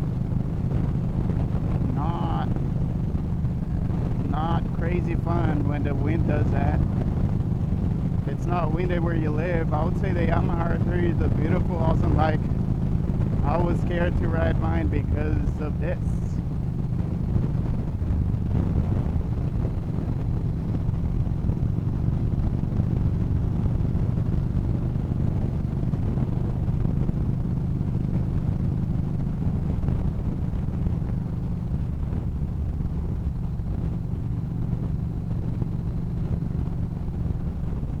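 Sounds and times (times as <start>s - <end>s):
motorcycle engine cruising: 0.0s - 38.0s.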